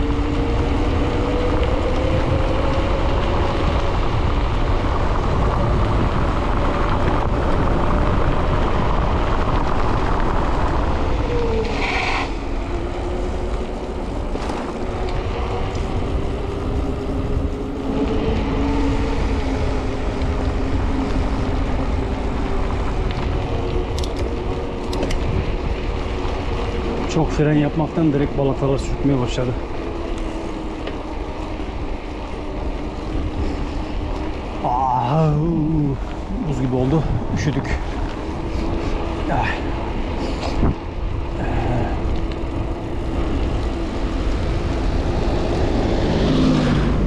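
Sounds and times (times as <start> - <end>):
bike wheels humming: 0.0 - 47.0
wind on microphone: 0.0 - 47.0.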